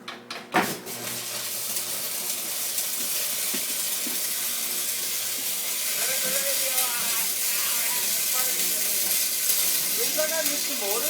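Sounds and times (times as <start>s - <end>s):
arc welder crackling sizzle: 0.6s - 11.0s.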